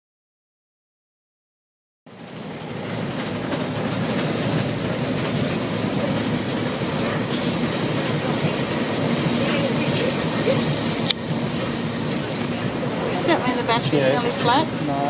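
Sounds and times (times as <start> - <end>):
train wheels rumbling on rails: 2.1 - 15.0.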